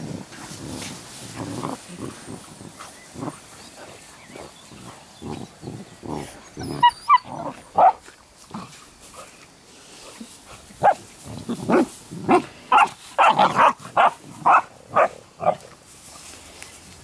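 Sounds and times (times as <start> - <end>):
puppies barking and growling: 0.0 - 15.8.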